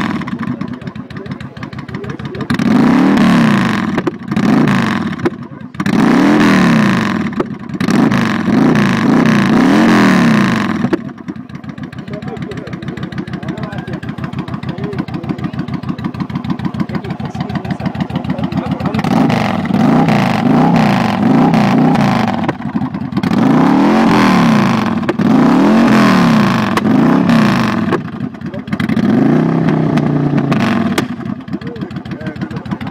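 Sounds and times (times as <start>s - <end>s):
motorcycle engine idling and revving: 0.0s - 32.9s.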